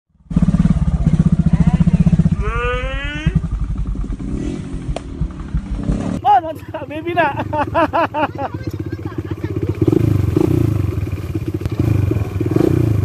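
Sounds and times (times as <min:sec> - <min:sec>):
dirt bike engine running: 0:00.1 - 0:13.0.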